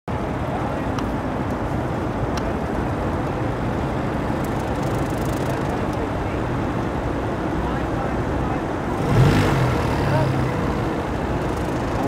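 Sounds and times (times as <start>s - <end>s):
low outdoor rumble: 0.1s - 12.0s.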